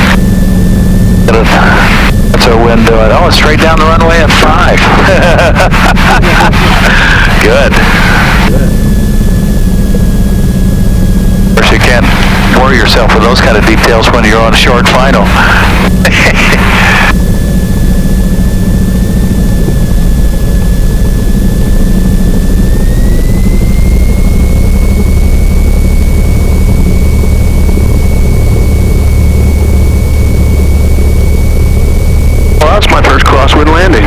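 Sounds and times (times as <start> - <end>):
aircraft engine and propeller droning: 0.0 - 34.0
thin high whine: 0.0 - 34.0.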